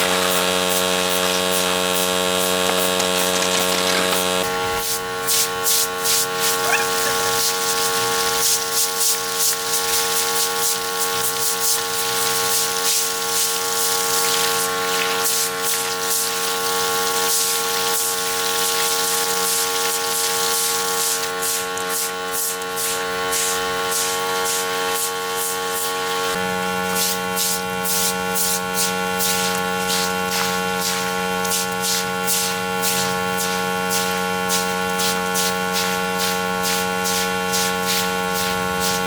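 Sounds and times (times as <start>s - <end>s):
pressure washer motor whine: 0.0s - 39.0s
water jet spray hissing: 0.3s - 21.6s, 27.0s - 39.0s.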